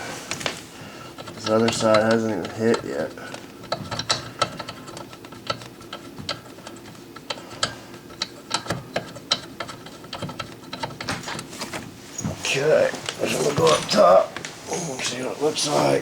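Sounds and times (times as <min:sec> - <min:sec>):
sharp clicks of leg turning: 0:00.3 - 0:13.8.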